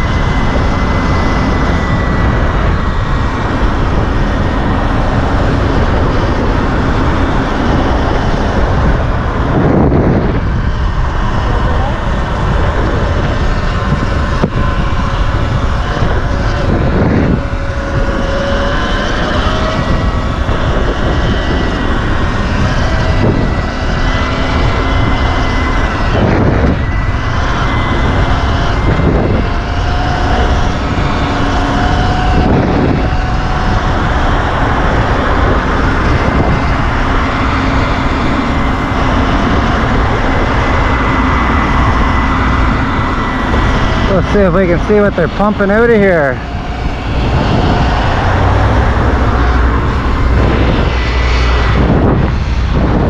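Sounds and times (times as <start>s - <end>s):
electric motor whine: 0.0s - 53.0s
wind rushing over microphone: 0.0s - 53.0s.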